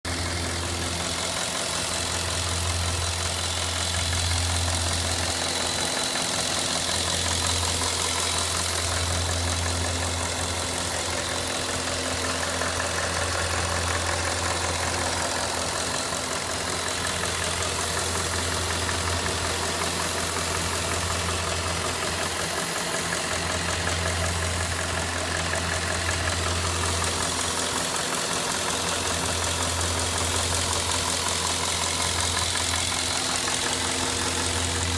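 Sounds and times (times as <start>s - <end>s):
car engine idling: 0.0s - 34.9s
engine clicking: 0.0s - 34.9s.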